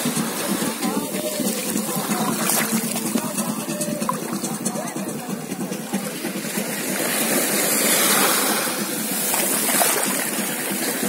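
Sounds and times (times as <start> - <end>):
small waves lapping on sand: 0.0 - 11.0.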